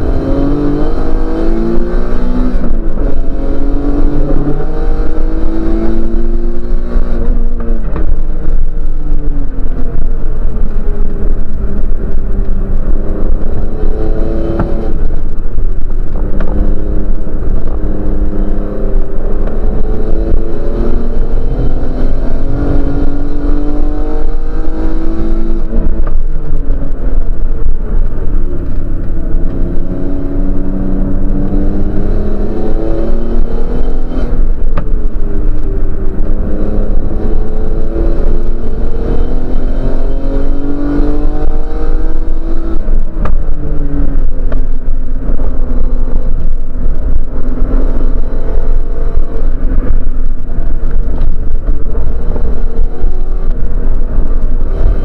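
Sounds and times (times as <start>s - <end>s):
low road and drivetrain rumble: 0.0s - 55.0s
race car engine accelerating: 0.0s - 55.0s.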